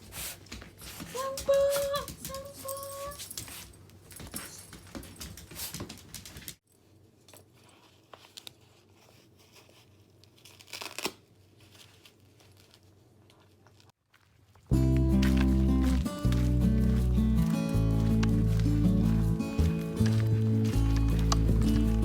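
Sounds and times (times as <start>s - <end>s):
rustling handling noise: 0.0s - 22.0s.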